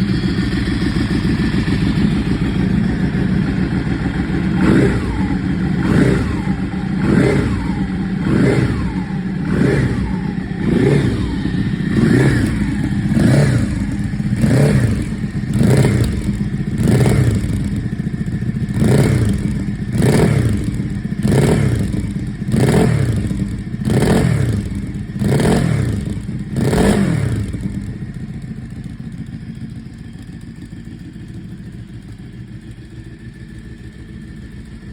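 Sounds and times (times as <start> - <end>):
motorcycle engine idling: 0.0 - 34.9
motorcycle engine revving: 0.0 - 34.9.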